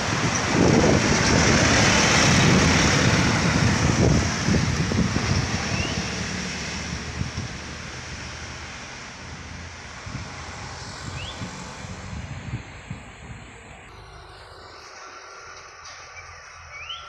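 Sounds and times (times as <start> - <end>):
heavy vehicle passing: 0.0 - 16.8.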